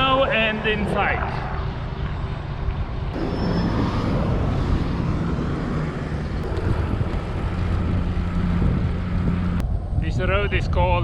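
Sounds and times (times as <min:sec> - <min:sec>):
wind and road noise rumble: 0:00.0 - 0:11.0.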